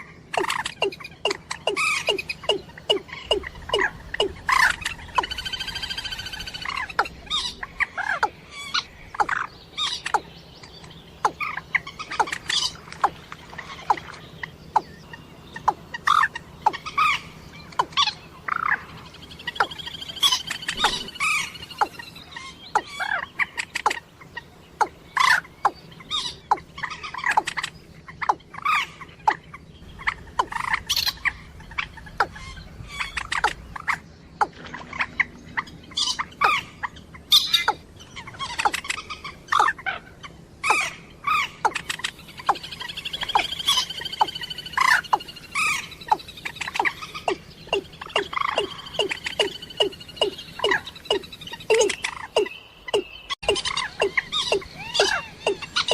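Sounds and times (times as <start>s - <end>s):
waterbird calls: 0.0s - 10.4s, 11.1s - 55.9s.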